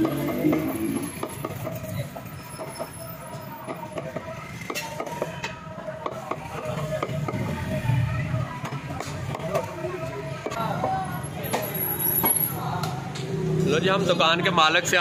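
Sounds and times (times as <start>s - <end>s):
busy shop background noise: 0.0s - 15.0s.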